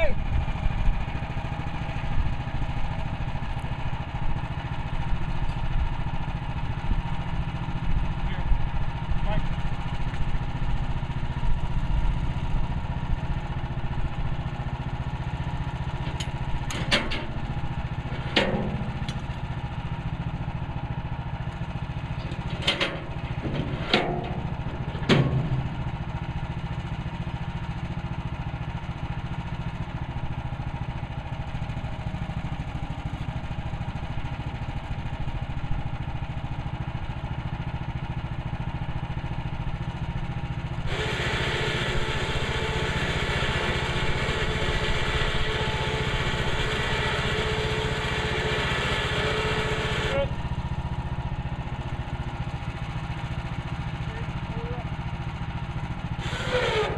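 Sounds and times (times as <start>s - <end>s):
sawmill gas engine running: 0.0s - 56.9s.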